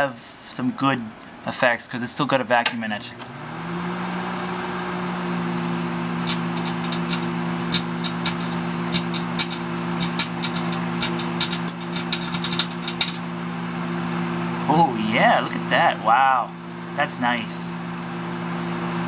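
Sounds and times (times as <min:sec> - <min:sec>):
microwave oven humming: 0:02.4 - 0:19.0.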